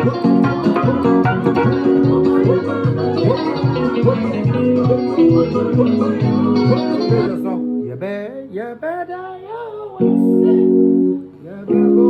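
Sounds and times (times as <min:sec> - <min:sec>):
electronic keyboard playing: 0:00.0 - 0:08.6, 0:09.8 - 0:12.0.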